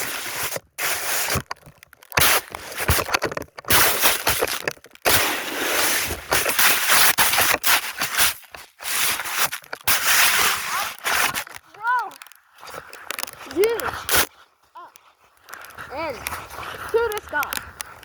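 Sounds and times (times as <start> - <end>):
snow crunching against microphone: 0.0 - 18.0.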